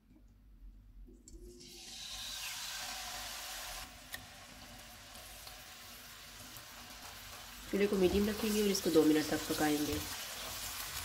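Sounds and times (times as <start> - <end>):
chicken sizzling in hot oil: 1.6 - 11.0.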